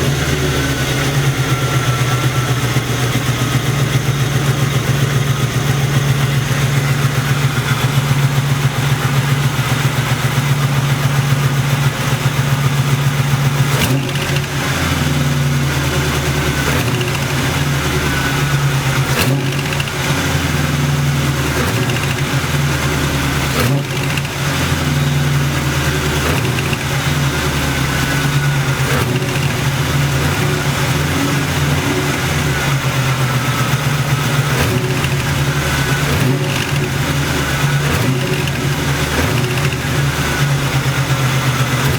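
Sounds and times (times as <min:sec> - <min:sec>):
engine idling with knock: 0:00.0 - 0:41.9.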